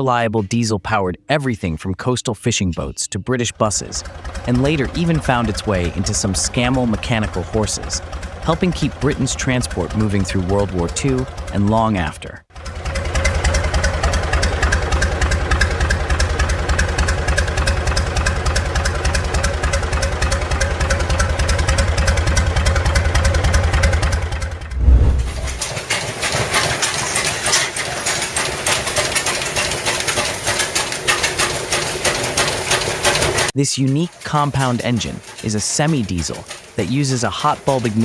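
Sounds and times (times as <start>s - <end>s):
diesel engine running: 3.3s - 38.0s
clattering engine: 3.4s - 38.0s.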